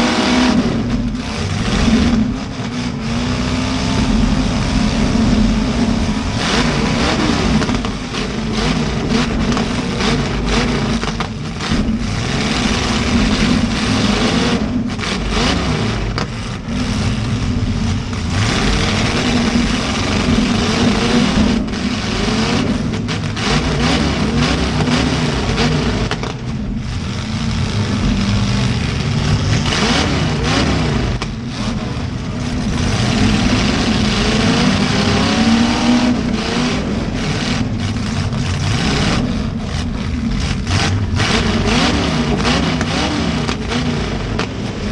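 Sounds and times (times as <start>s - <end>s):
car engines revving hard: 0.0s - 44.9s.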